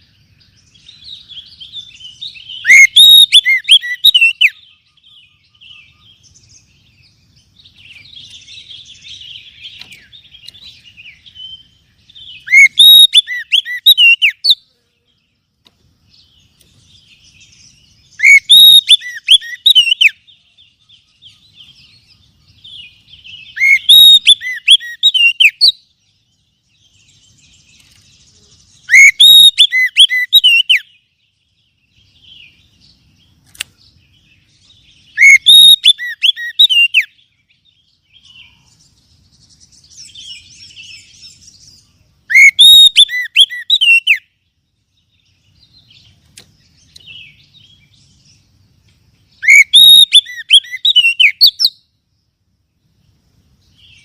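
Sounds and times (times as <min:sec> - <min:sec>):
bird singing whistled notes: 0:00.0 - 0:54.0
faint bird chirps: 0:00.0 - 0:54.0.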